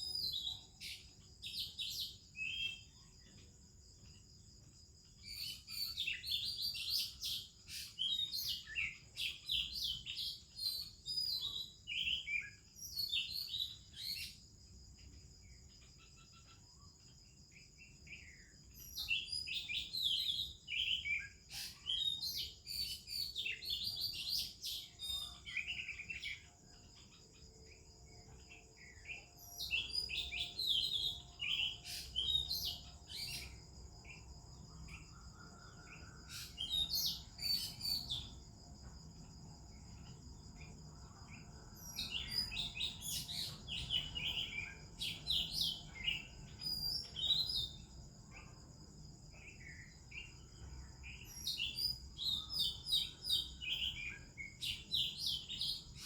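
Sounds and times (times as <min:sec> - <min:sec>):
birds singing whistles and chirps: 0:00.0 - 0:56.0.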